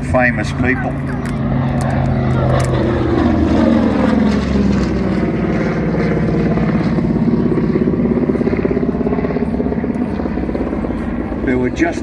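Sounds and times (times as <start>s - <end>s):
radial aircraft engine droning: 0.0s - 12.0s.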